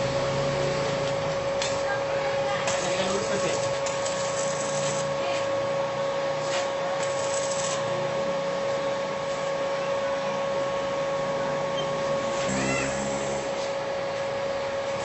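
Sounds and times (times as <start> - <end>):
machine humming and whining: 0.0 - 15.0.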